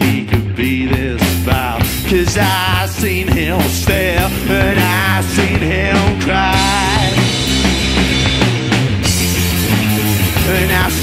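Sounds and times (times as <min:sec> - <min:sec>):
rock song with guitar and drums: 0:00.0 - 0:11.0.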